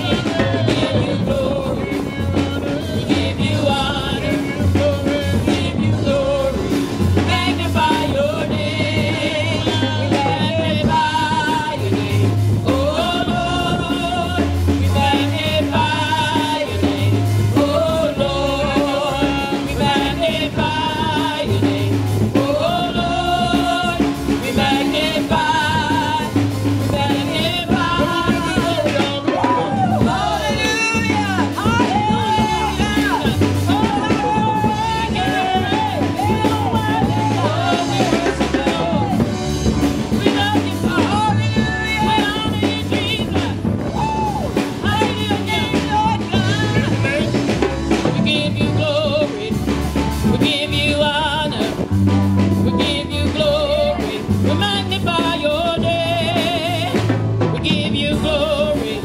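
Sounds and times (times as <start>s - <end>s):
bass line: 0.0s - 59.0s
drum kit: 0.0s - 59.0s
person singing with vibrato: 0.0s - 59.0s.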